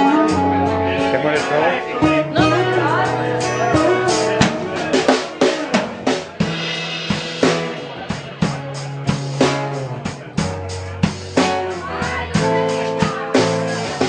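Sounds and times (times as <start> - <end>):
drum kit beat: 0.0 - 14.0
live rock band playing: 0.0 - 14.0
strummed acoustic guitars: 0.0 - 14.0.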